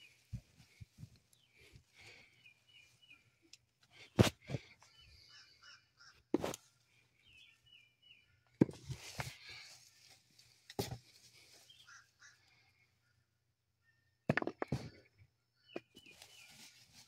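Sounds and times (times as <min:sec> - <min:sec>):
small birds chirping: 0:00.0 - 0:14.2, 0:14.9 - 0:17.0.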